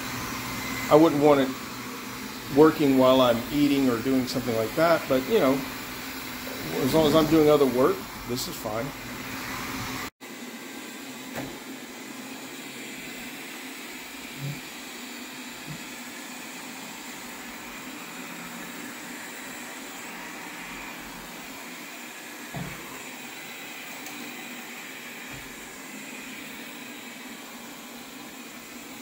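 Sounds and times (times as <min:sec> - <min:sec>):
robot vacuum whirring: 0:00.0 - 0:29.0.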